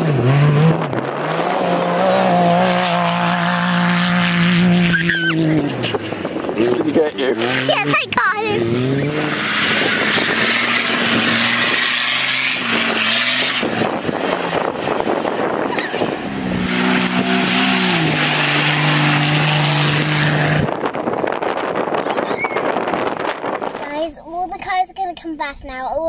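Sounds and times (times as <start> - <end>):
off-road engines working hard: 0.0 - 26.0.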